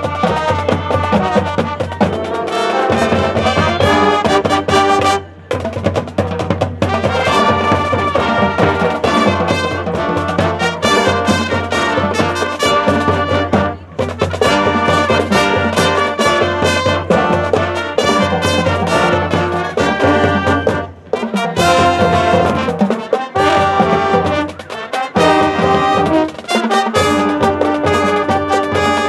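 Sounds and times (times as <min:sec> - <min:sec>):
brass ensemble playing tune: 0:00.0 - 0:05.7, 0:06.3 - 0:29.0
drum-line percussion: 0:00.0 - 0:29.0.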